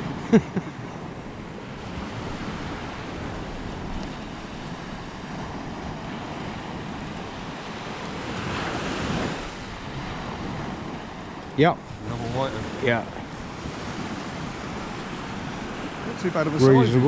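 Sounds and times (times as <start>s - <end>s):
sea surf washing on beach: 0.0s - 17.0s
wind buffeting microphone: 0.0s - 17.0s.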